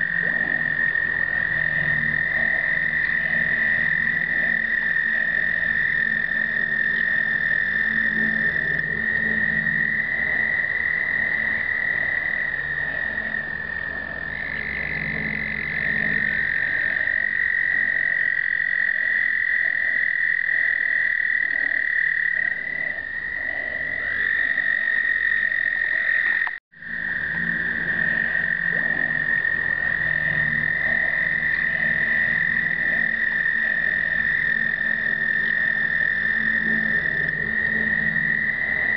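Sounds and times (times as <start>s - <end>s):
toads trilling: 0.0s - 38.9s.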